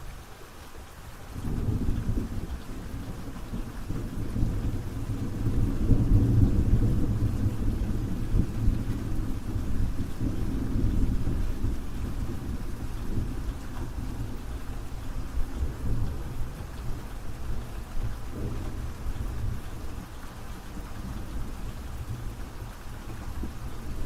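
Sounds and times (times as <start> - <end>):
steady rain: 0.0 - 24.0
rolling thunder rumble: 1.3 - 24.0.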